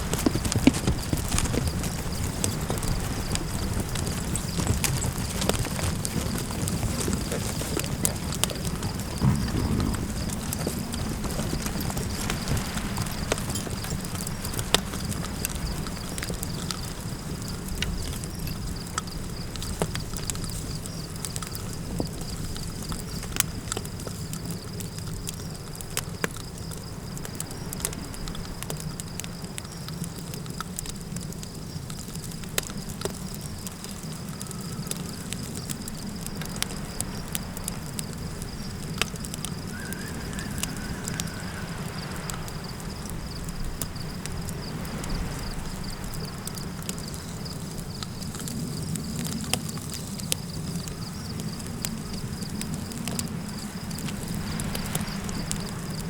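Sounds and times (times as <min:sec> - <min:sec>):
campfire crackling and popping: 0:00.0 - 0:56.0
wind rumbling: 0:00.0 - 0:56.0.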